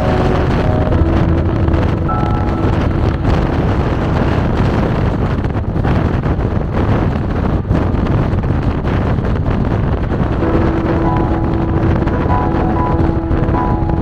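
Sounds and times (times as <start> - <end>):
car road and wind noise: 0.0 - 14.0
wind buffeting microphone: 0.0 - 14.0.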